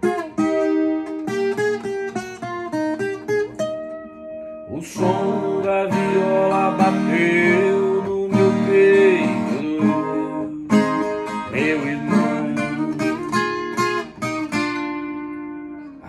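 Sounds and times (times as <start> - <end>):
classical guitar playing: 0.0 - 16.0.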